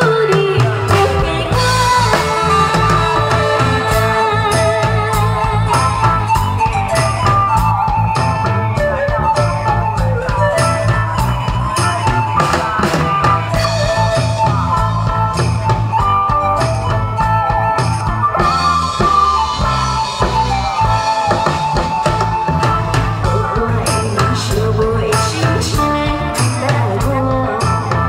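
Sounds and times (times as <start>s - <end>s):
drum kit beat: 0.0s - 28.0s
live band playing: 0.0s - 28.0s.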